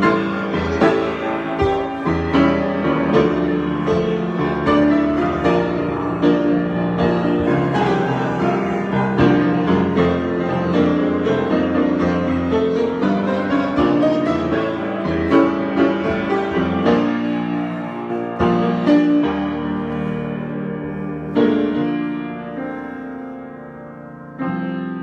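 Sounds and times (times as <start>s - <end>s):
solo piano chords: 0.0s - 25.0s.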